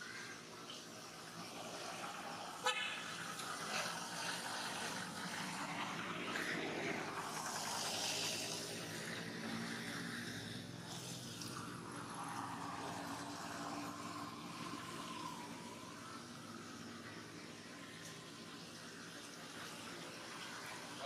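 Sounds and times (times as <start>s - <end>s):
road traffic hum and hiss: 0.0s - 21.0s.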